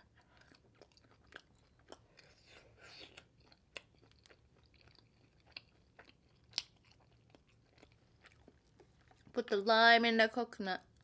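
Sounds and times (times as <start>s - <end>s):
soft chewing mouth clicks: 0.0s - 9.4s.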